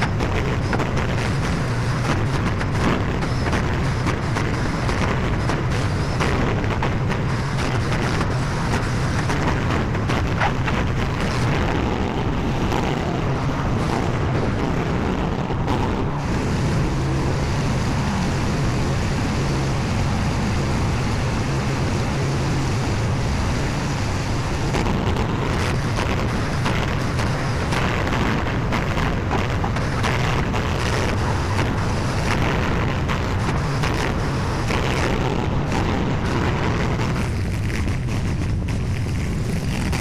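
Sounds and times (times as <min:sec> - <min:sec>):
skid steer engine drone: 0:00.0 - 0:40.0.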